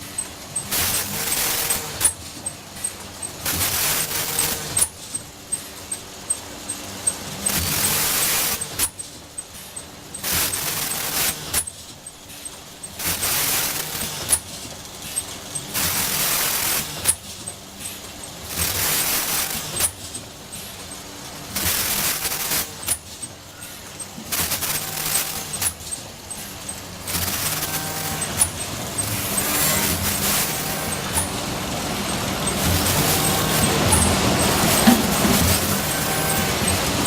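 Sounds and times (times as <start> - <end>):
mechanical clack: 0.0 - 37.0.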